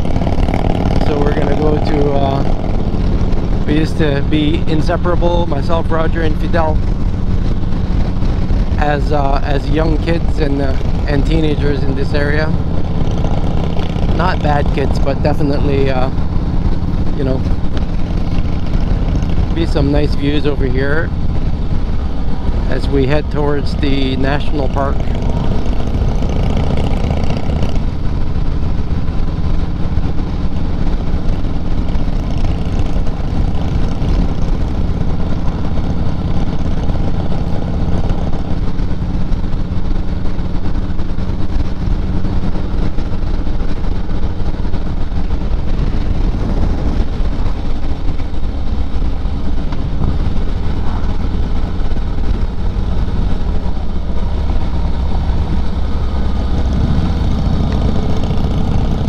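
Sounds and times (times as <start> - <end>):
road and wind noise: 0.0 - 59.0
vehicle engine droning: 0.0 - 59.0.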